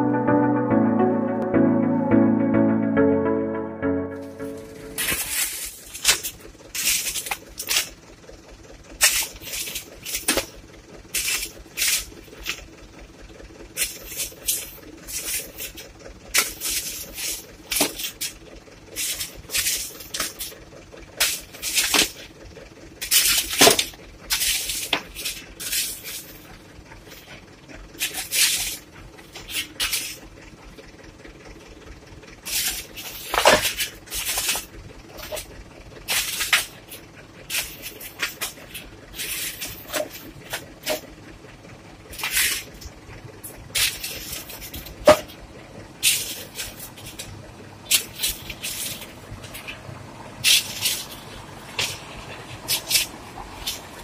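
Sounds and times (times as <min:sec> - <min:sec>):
truck engine drone: 0:00.0 - 0:54.0.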